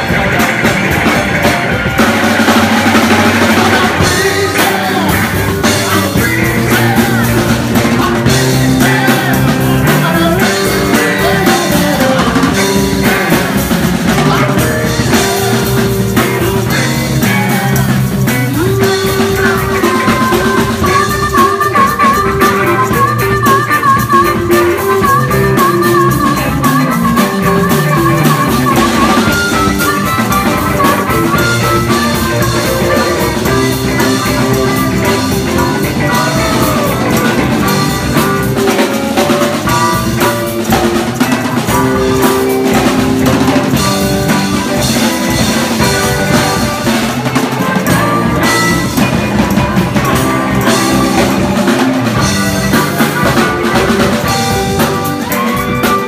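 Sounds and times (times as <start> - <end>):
drum kit: 0.0 - 56.0
electric guitars: 0.0 - 56.0
harmonica lead line: 0.0 - 56.0.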